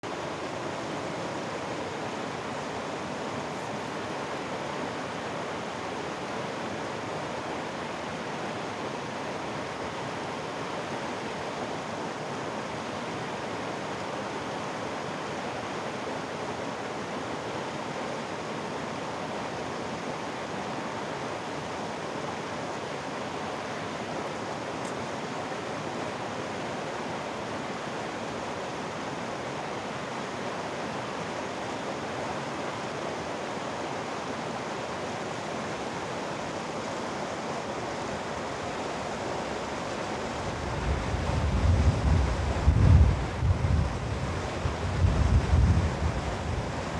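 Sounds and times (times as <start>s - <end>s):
stream flowing over rocks: 0.1s - 41.2s.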